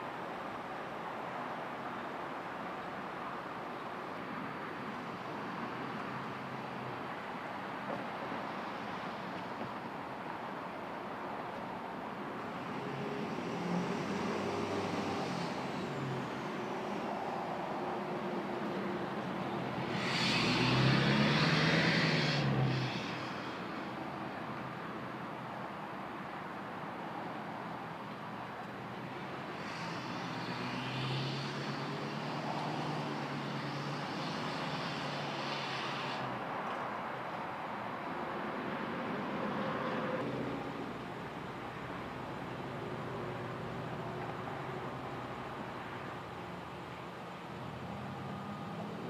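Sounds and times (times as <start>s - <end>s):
road traffic noise: 0.0s - 49.0s
street noise hiss: 0.0s - 49.0s.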